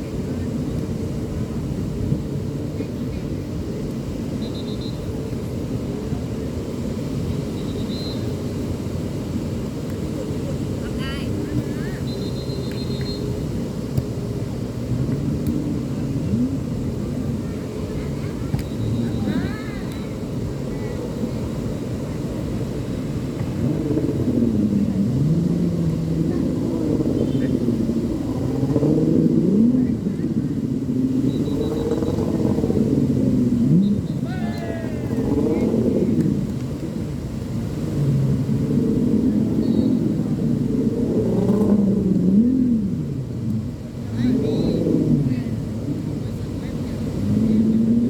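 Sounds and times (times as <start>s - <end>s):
distant voices: 0.0s - 48.0s
surf rumbling: 0.0s - 48.0s
wind: 0.0s - 48.0s.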